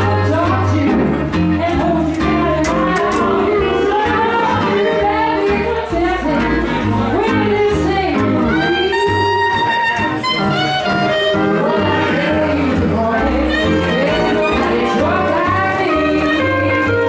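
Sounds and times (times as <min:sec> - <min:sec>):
country band playing: 0:00.0 - 0:17.0.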